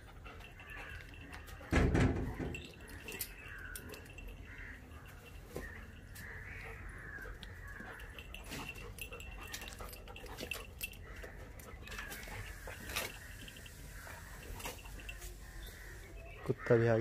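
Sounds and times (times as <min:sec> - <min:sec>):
metal chain leash clinking: 0:00.0 - 0:16.4.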